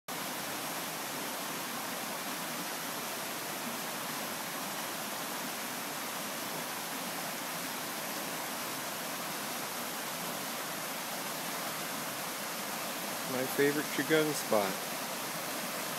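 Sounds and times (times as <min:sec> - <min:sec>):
creek water rushing over rocks: 0:00.1 - 0:15.9.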